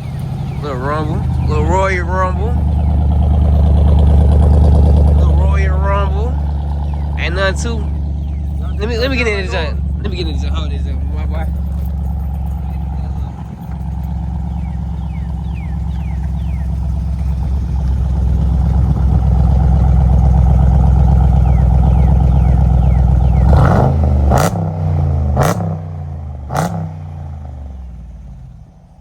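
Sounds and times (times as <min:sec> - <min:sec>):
sharp exhaust cracks: 0:00.0 - 0:28.4
loud engine revving: 0:00.0 - 0:28.5.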